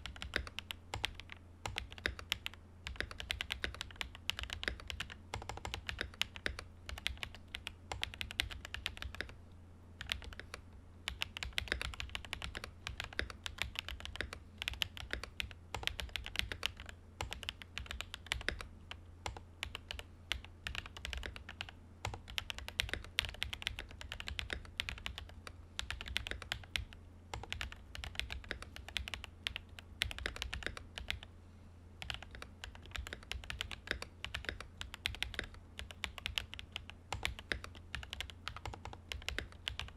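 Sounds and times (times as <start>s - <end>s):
fast mechanical keyboard typing: 0.0s - 9.4s, 10.0s - 31.3s, 32.0s - 39.9s
steady low hum: 0.0s - 39.9s.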